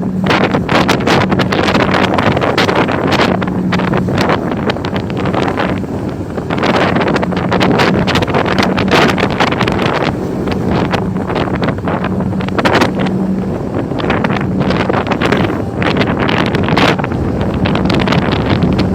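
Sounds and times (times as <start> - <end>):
boat engine hum: 0.0 - 18.9
wind buffeting microphone: 0.0 - 18.9.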